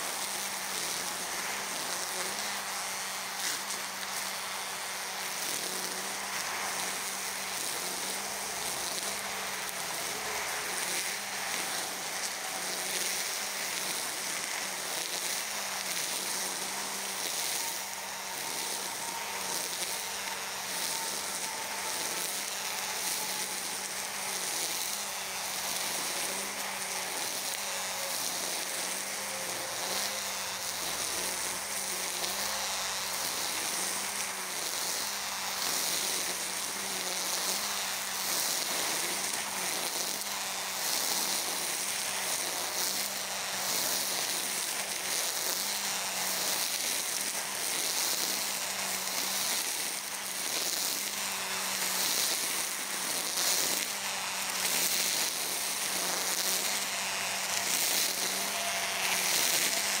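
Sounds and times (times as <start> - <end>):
brush cutter whirring hum: 0.0 - 60.0.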